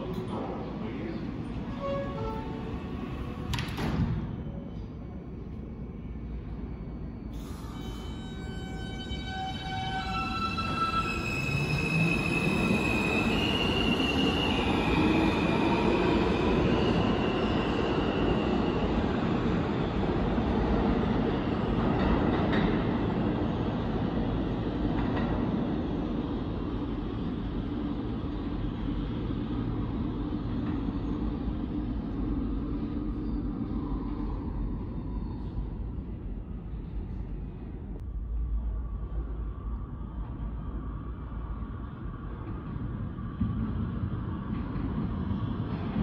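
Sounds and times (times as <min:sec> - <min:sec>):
train propulsion whine: 0:00.0 - 0:37.0.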